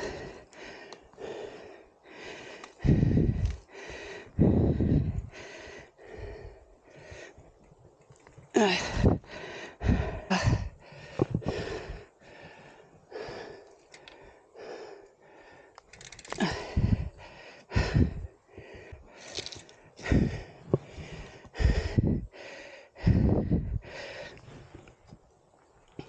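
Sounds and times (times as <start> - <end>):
man panting hard: 0.0 - 7.4, 8.6 - 24.5.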